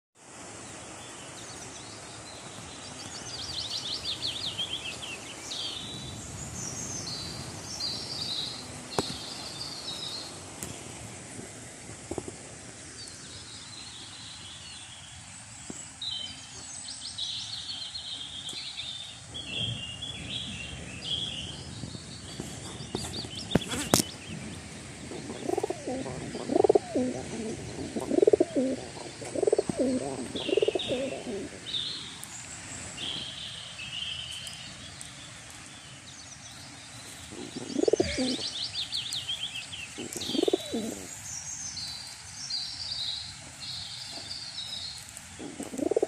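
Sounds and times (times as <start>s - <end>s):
outdoor background noise: 0.2s - 46.0s
small birds chirping: 0.2s - 46.0s.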